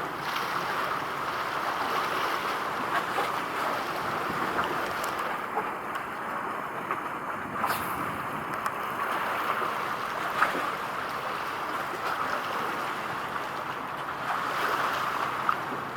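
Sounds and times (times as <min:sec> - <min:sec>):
water: 0:00.0 - 0:15.9
wind: 0:00.0 - 0:15.9.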